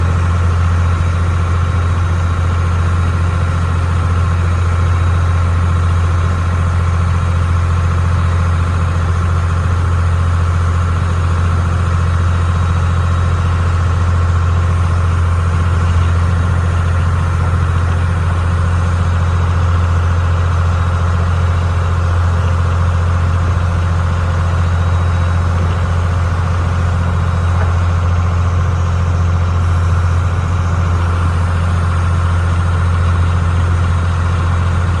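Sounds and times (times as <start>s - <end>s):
ferry diesel engine droning: 0.0s - 35.0s.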